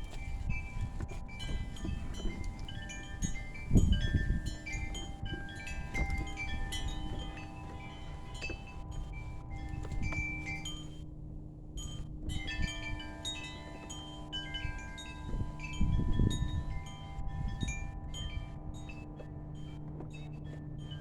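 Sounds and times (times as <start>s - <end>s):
wind chimes ringing: 0.1s - 10.8s, 11.8s - 19.1s.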